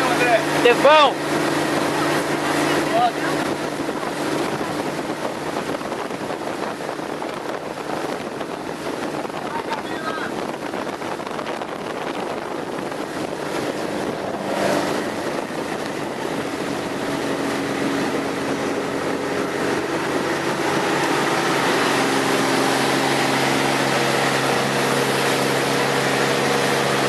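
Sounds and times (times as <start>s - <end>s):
powerboat engine humming: 0.0s - 27.0s
rush of wind and water: 0.0s - 27.0s.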